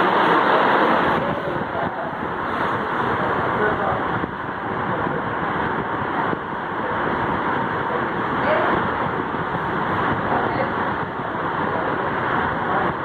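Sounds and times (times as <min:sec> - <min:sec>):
ceiling fan rushing air: 0:00.0 - 0:13.0.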